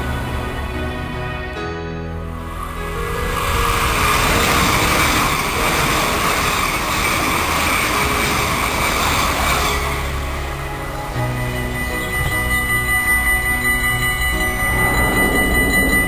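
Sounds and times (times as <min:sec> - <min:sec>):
high-speed train passing: 0:00.0 - 0:01.3, 0:02.3 - 0:16.0.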